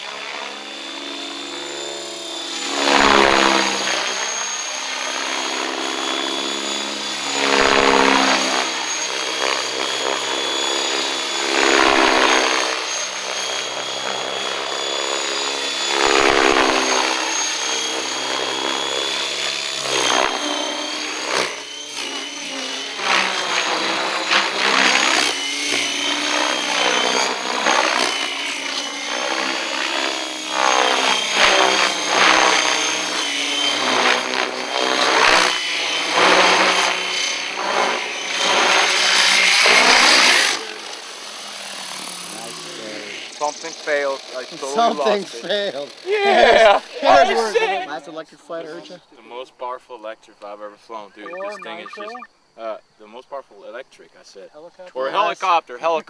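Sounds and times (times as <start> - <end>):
rc helicopter rotor and motor: 0.0 - 48.9.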